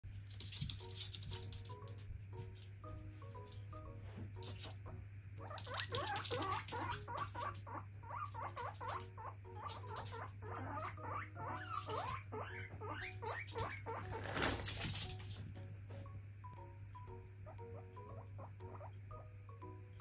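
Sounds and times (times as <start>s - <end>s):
guinea pig squeaking: 0.3s - 2.0s, 2.6s - 15.6s, 16.5s - 20.0s.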